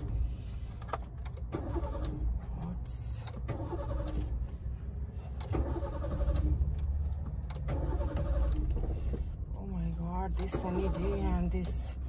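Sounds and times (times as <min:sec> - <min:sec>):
car engine running inside cabin: 0:00.0 - 0:12.0.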